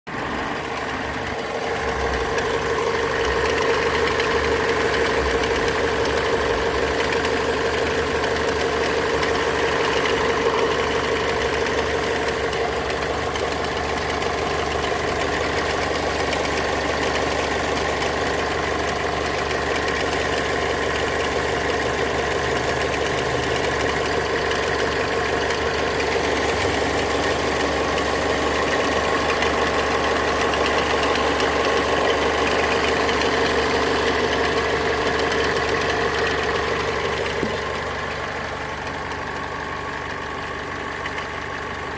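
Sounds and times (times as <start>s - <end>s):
diesel engine idling: 0.1s - 41.9s.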